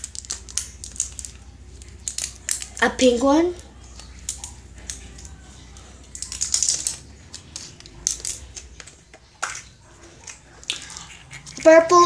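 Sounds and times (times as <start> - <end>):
plastic egg clicks and crinkles: 0.0 - 12.0.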